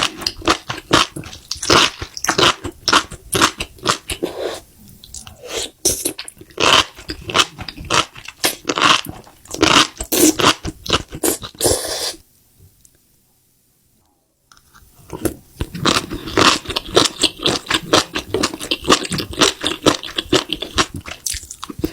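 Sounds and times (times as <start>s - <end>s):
crunchy food being chewed: 0.0s - 4.4s, 5.1s - 11.8s, 14.5s - 21.9s.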